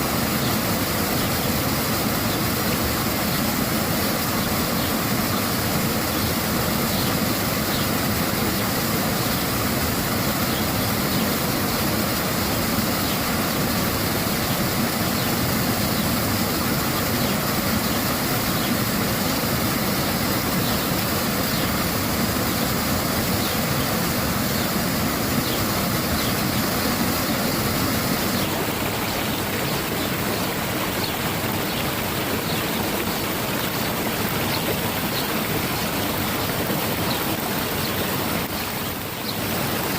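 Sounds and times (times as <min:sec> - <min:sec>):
spring water flowing and splashing: 0:00.0 - 0:39.9.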